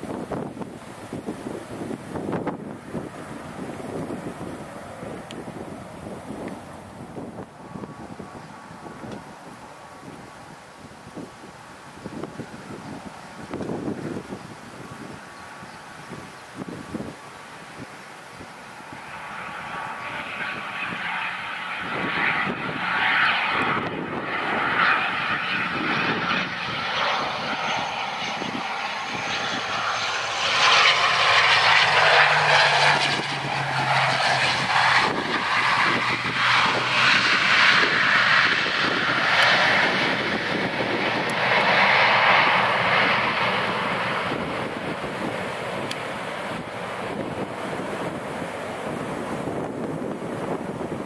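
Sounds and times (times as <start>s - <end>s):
turboprop engines droning: 0.0s - 51.0s.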